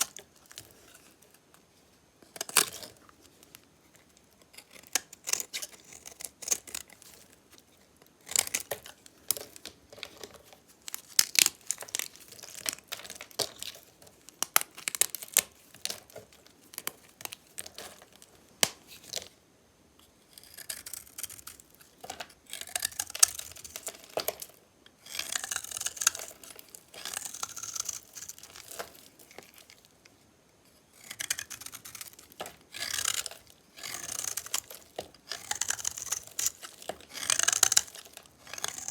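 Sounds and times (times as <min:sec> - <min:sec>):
blade cutting dry soap: 0:02.3 - 0:19.2, 0:20.3 - 0:29.9, 0:30.9 - 0:38.9.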